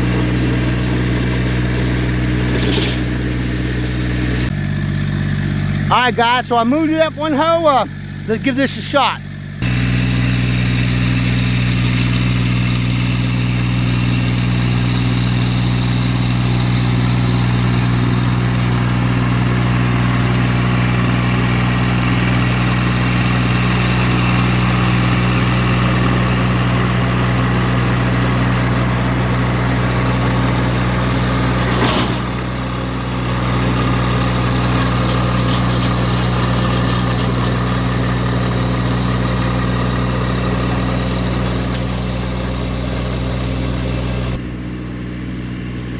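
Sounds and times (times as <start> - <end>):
rotary tiller working ground: 0.0 - 45.9
tractor diesel engine running: 0.0 - 45.9.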